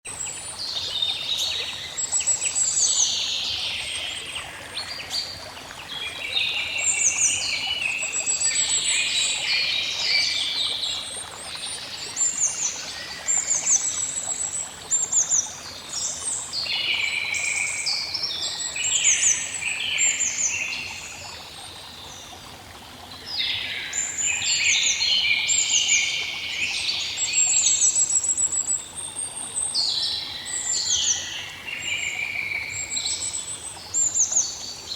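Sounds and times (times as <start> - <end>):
running water: 0.1 - 34.9.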